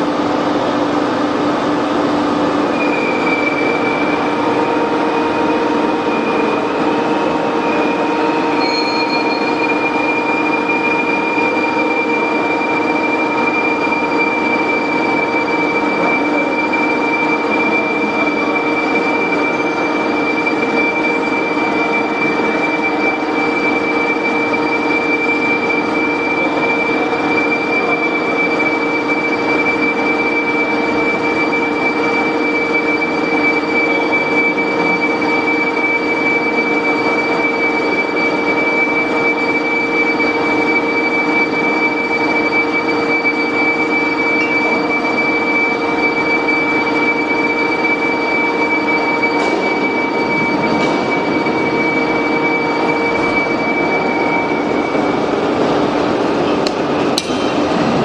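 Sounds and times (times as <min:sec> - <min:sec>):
machinery drone with whining tones: 0:00.0 - 0:58.0.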